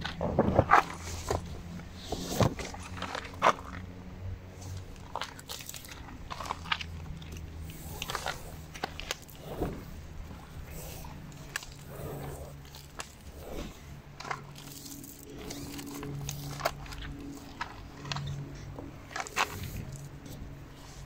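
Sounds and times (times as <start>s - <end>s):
rope rustling: 0.0s - 21.0s.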